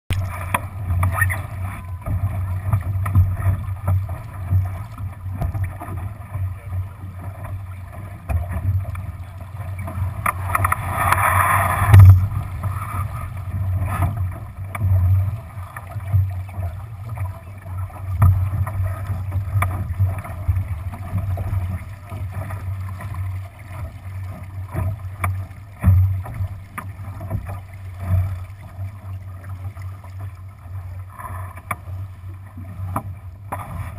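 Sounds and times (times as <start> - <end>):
water rushing along a hull: 0.1 - 33.9.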